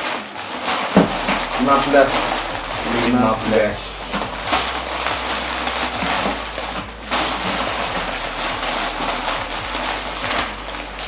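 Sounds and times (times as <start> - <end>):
background music: 0.0 - 11.0
steady hiss: 0.0 - 11.0.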